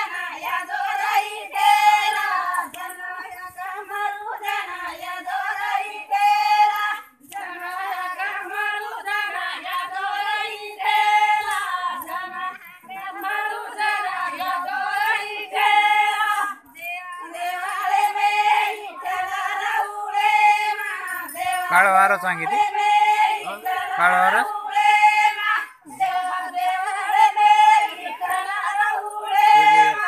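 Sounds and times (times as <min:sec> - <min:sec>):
hand clapping: 0:00.0 - 0:21.9, 0:23.3 - 0:30.0
women singing together: 0:00.0 - 0:30.0.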